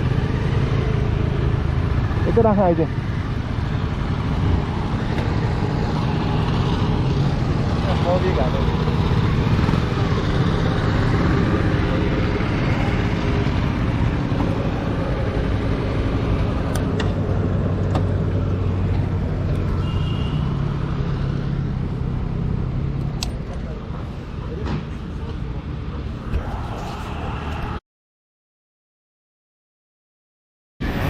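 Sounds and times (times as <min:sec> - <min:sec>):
traffic engines running: 0:00.0 - 0:27.8.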